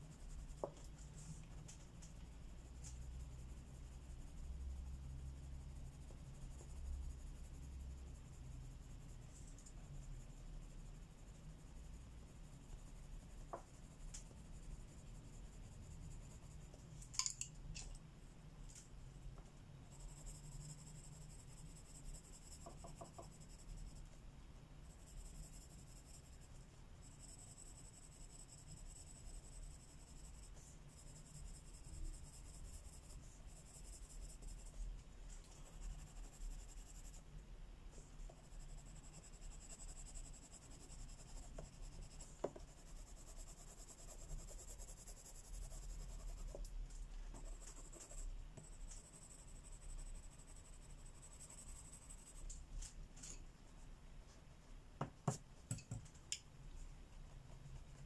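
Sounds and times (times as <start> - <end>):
coloring strokes on paper: 0.0 - 17.0, 19.8 - 24.2, 24.8 - 54.5, 56.7 - 58.0.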